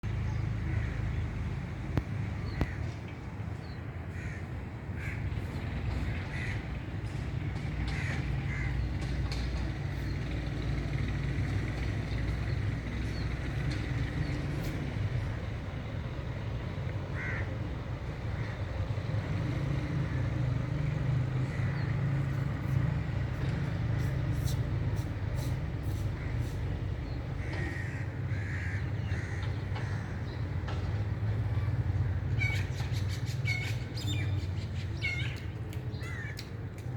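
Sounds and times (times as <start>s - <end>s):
birds calling: 0.1s - 15.6s, 17.1s - 36.9s.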